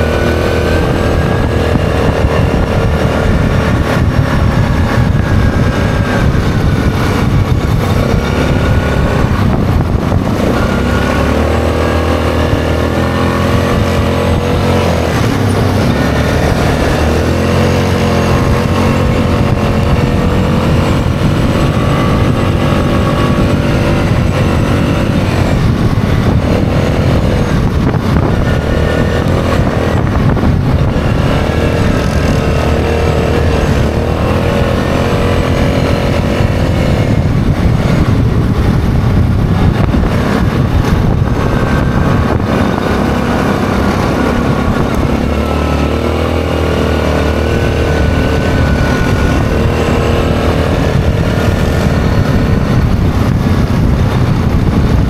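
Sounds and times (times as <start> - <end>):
atv engine running: 0.0 - 55.0
wind rushing: 0.0 - 55.0.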